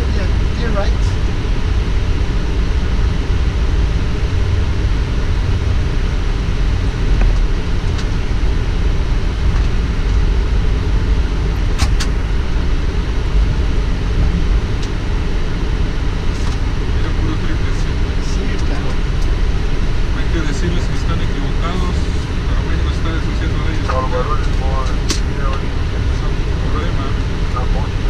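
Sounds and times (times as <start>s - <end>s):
low rumble in aircraft cockpit: 0.0s - 28.0s.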